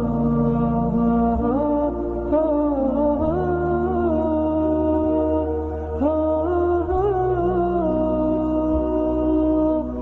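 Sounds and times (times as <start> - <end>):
low drone: 0.0 - 10.0.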